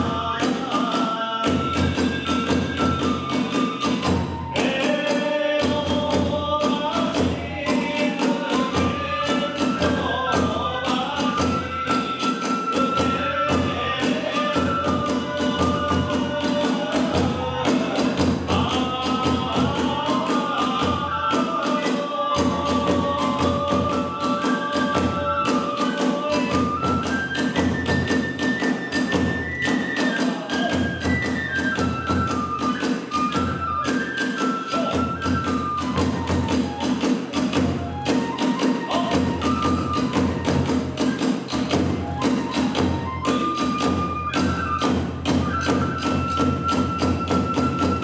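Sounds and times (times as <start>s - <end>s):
large drum beat: 0.0s - 34.2s, 34.8s - 48.0s
bamboo flute melody: 0.0s - 48.0s.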